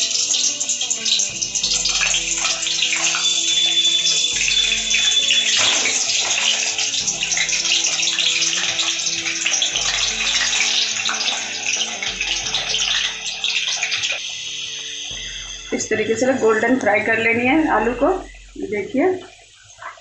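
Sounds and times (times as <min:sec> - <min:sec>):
potatoes sizzling in hot oil: 0:00.0 - 0:20.0.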